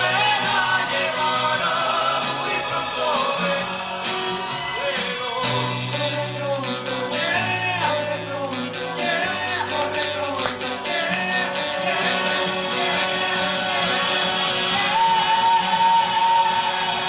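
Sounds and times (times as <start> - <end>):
bass notes: 0.0 - 17.0
guitar: 0.0 - 17.0
person singing: 0.0 - 17.0.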